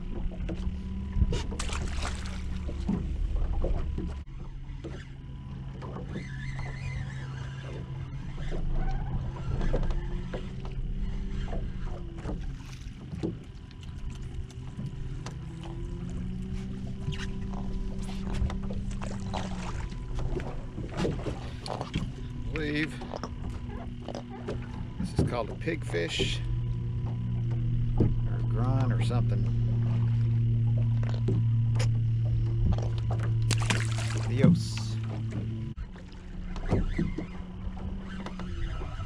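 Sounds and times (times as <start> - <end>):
steady low hum: 0.0 - 39.0
water lapping at hull: 0.0 - 39.0.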